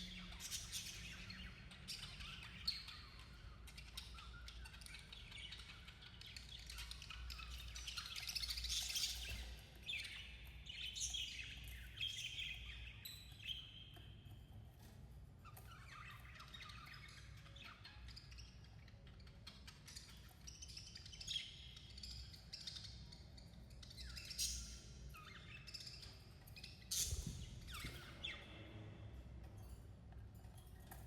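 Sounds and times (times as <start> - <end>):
budgerigars chirping and squawking: 0.0 - 29.2.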